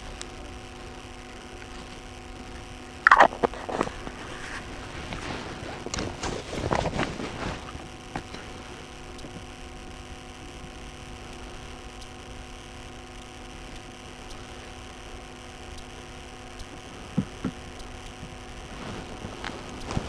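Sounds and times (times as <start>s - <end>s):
steady hum of held tones: 0.0s - 20.0s.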